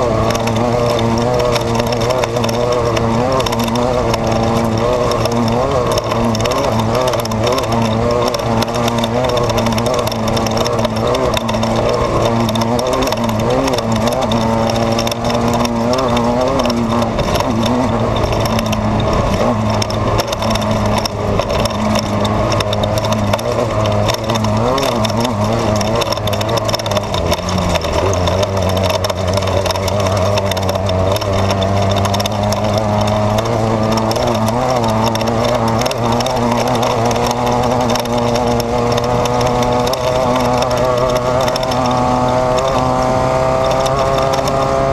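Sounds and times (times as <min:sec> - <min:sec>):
car rumble and rattle: 0:00.0 - 0:44.9
race car engine revving: 0:00.0 - 0:44.9.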